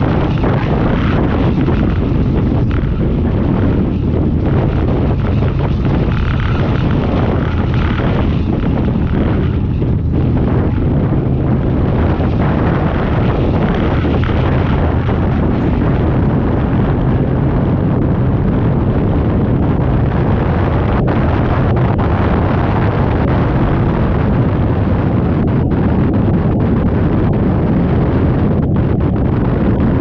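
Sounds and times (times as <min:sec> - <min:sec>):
powerboat engines droning: 0:00.0 - 0:24.3
wind buffeting microphone: 0:00.0 - 0:30.0.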